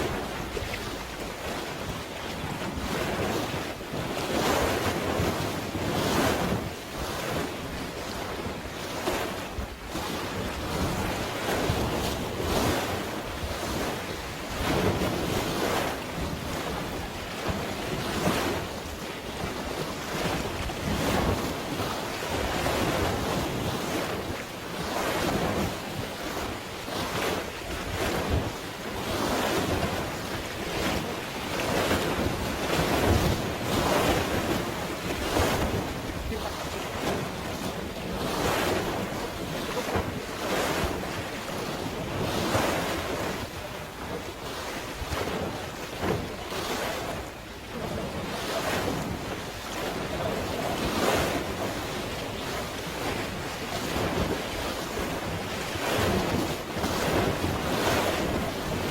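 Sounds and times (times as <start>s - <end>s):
sea waves washing in: 0.0s - 58.9s
wind on microphone: 0.0s - 58.9s.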